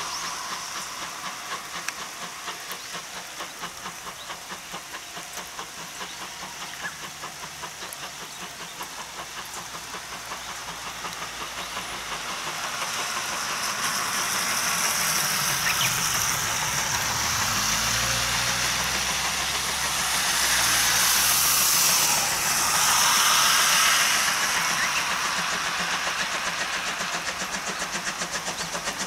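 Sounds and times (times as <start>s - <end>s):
steam hissing: 0.0s - 29.0s
steam locomotive chuffing: 0.0s - 29.0s.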